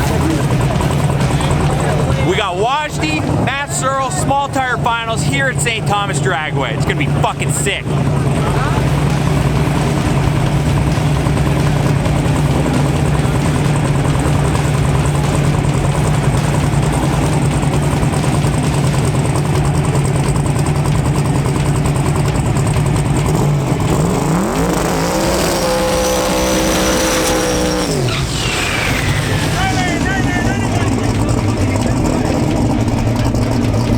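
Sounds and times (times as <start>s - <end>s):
drag racing engine running: 0.0s - 33.9s
engine revving: 0.0s - 33.9s.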